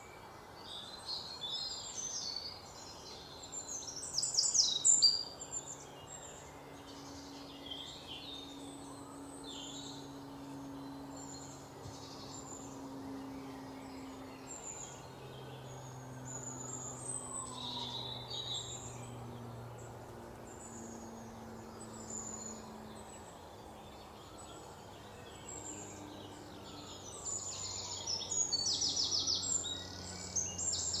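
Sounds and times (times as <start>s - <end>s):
low steady hum: 0.0s - 31.0s
small birds chirping: 0.0s - 31.0s.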